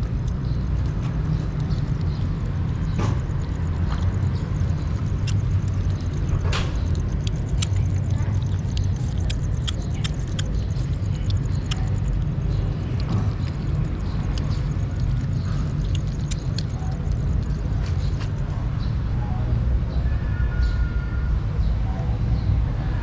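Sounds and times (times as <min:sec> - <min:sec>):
kittens chewing and lapping food: 0:00.0 - 0:18.8
low rumble: 0:00.0 - 0:19.4.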